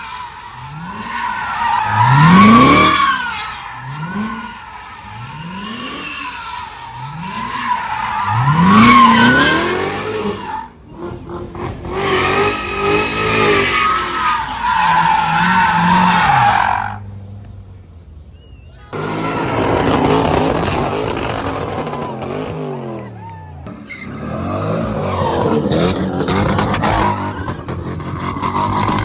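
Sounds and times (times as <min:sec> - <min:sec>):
tyres squealing on pavement: 0:00.0 - 0:17.3, 0:18.3 - 0:29.0
car engine revving: 0:00.5 - 0:17.8, 0:19.0 - 0:29.0.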